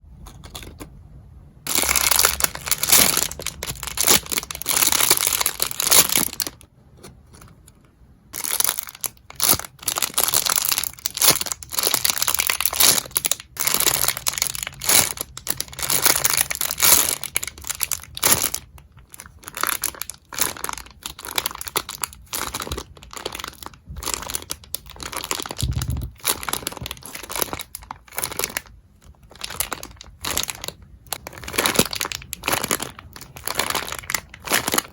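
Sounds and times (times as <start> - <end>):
packaging crinkling and rustling: 1.7 - 7.7, 8.4 - 34.9.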